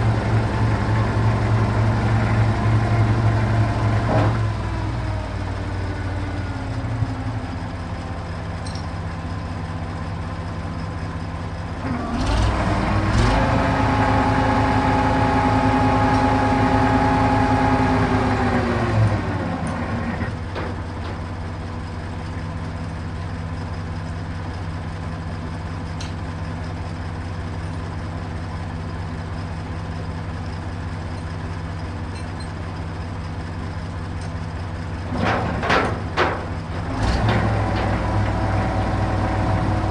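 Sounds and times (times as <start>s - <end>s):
crane engine revving: 0.0s - 8.6s, 9.3s - 27.5s, 32.7s - 39.9s.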